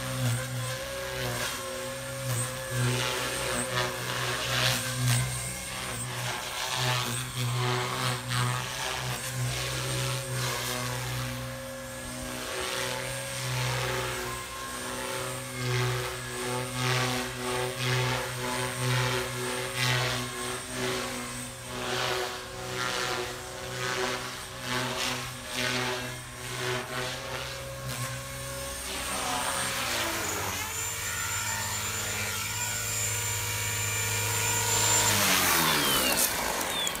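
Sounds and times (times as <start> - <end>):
radio-controlled helicopter rotor whine: 0.0 - 37.0.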